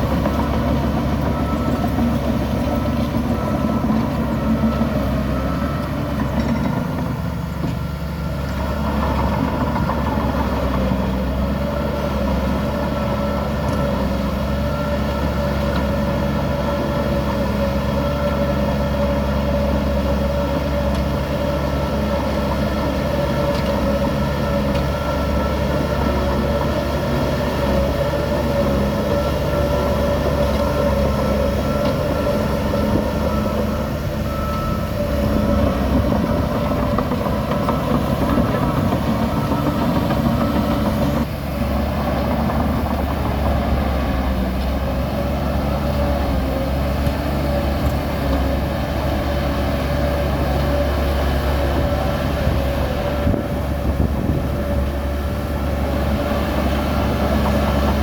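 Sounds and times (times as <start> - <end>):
diesel engine drone: 0.0 - 58.0
machinery whine: 0.0 - 58.0.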